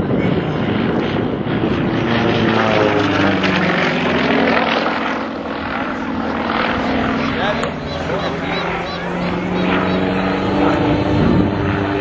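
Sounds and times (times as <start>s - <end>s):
radial engine and propeller: 0.0s - 12.0s.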